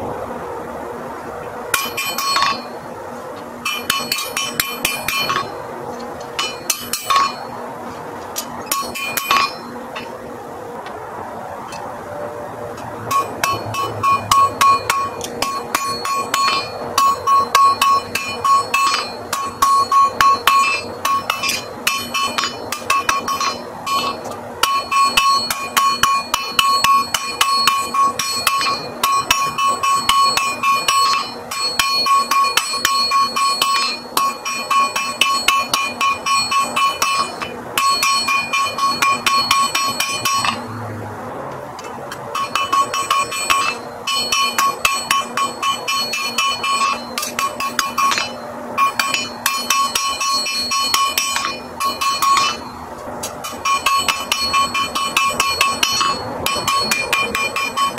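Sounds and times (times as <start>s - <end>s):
hammer striking iron on anvil: 1.7s - 2.8s, 3.6s - 7.6s, 8.3s - 10.1s, 12.8s - 40.8s, 41.8s - 57.9s.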